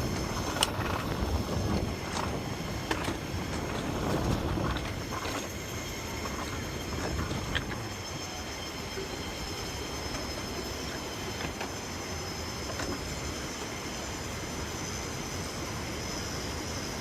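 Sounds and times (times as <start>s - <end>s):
coaster wheels rumbling on rail: 0.0s - 17.0s.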